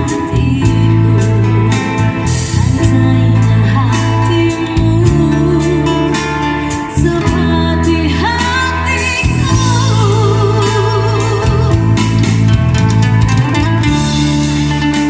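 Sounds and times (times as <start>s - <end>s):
woman singing: 0.0s - 12.4s
bass guitar notes: 0.0s - 15.0s
guitar: 0.0s - 15.0s.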